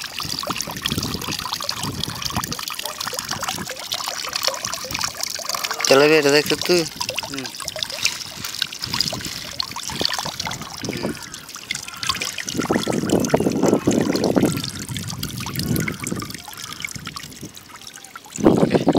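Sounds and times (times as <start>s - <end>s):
water dripping into water: 0.0s - 18.9s.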